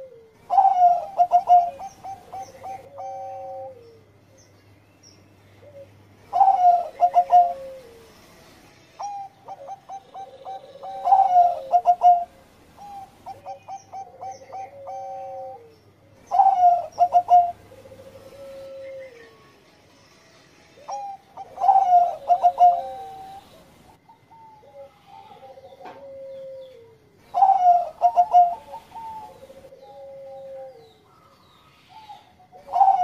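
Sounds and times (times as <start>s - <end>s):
dove cooing: 0.0s - 4.5s, 5.6s - 8.2s, 9.0s - 19.4s, 20.8s - 33.0s.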